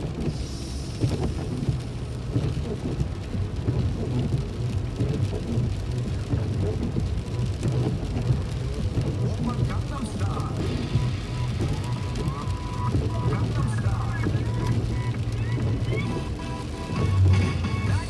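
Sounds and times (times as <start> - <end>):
car engine and tyres rumbling: 0.0 - 18.0
rain on the car: 0.0 - 18.0
tyres hissing on wet pavement: 0.0 - 18.0.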